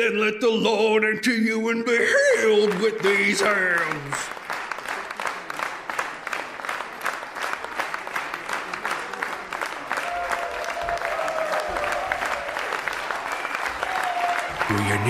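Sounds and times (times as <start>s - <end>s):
congregation applauding: 2.1s - 15.0s.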